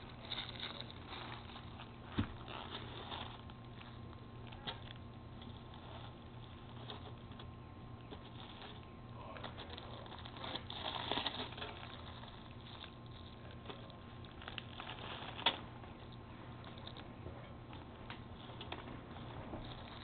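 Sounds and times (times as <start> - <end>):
plastic crinkling and rustling: 0.0 - 20.0.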